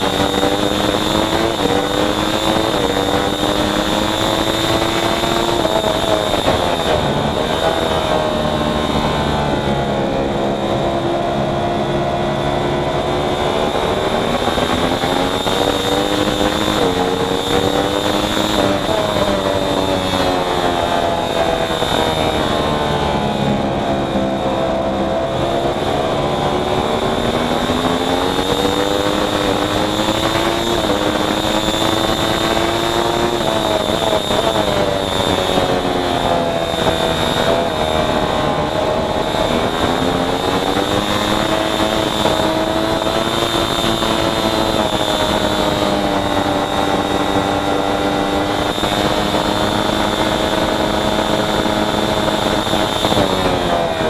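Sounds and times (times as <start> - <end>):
racing motorcycle engine revving: 0.0 - 54.0
steady high whine: 0.0 - 54.0.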